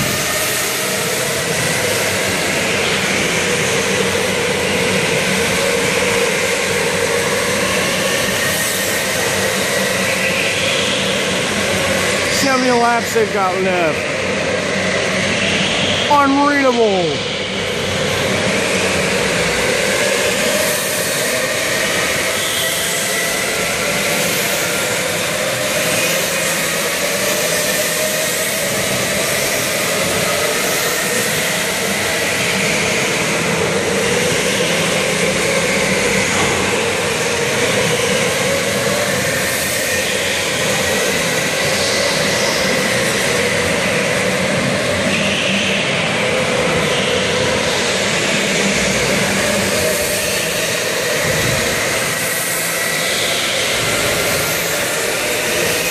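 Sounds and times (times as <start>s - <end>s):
electric go-karts motor whine: 0.0s - 55.9s.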